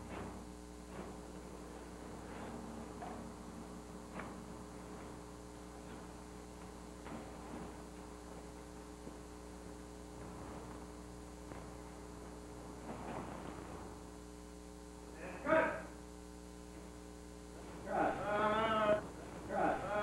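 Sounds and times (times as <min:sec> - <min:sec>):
scuffs and rustles of movement: 0:00.0 - 0:14.1, 0:16.7 - 0:20.0
electrical mains hum: 0:00.0 - 0:20.0.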